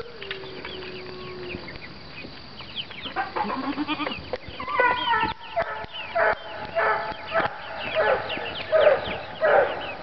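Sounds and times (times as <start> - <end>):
farm animals calling: 0.0 - 10.0
small birds chirping: 0.0 - 10.0.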